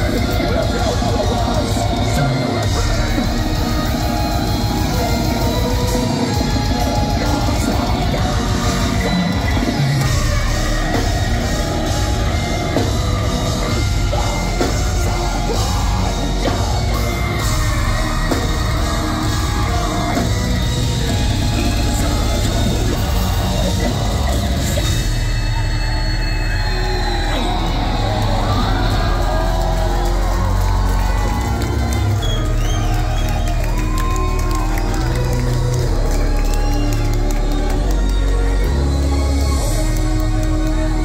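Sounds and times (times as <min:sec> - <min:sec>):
distorted electric guitars: 0:00.0 - 0:41.0
drums: 0:00.0 - 0:41.0.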